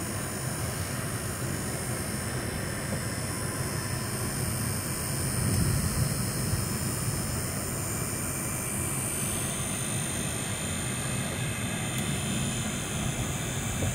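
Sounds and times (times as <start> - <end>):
engine and tyre rumble: 0.0 - 13.9.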